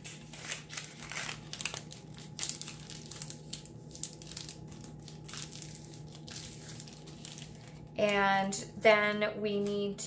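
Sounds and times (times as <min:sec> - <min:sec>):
paper crinkling and rustling: 0:00.0 - 0:08.2.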